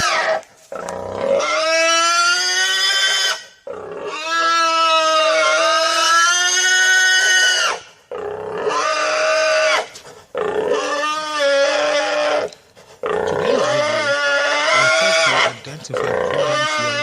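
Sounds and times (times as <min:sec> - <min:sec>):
pigs squealing: 0:00.0 - 0:17.0.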